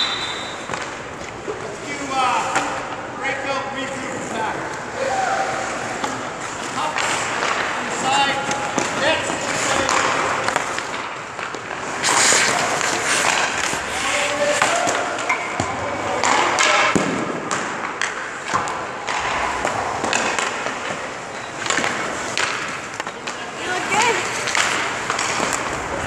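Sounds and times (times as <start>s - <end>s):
pucks striking net and boards: 0.0s - 3.1s, 3.8s - 26.0s
hockey sticks clacking: 0.0s - 26.0s
skates scraping on ice: 3.8s - 15.4s, 16.1s - 26.0s.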